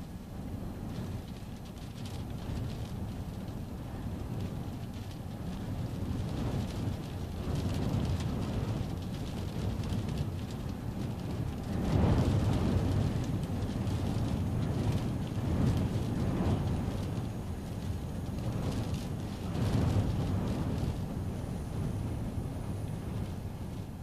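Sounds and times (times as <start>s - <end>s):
storm wind buffeting a car: 0.0s - 24.0s
raindrops ticking on glass: 1.0s - 21.1s.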